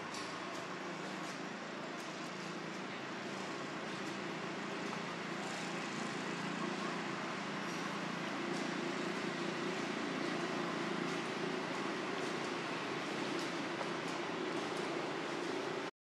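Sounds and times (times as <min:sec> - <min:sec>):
outdoor background hum and hiss: 0:00.0 - 0:15.9.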